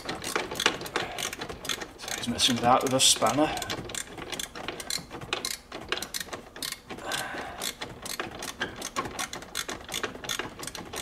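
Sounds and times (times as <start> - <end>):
ratchet spanner clicking: 0.0 - 11.0.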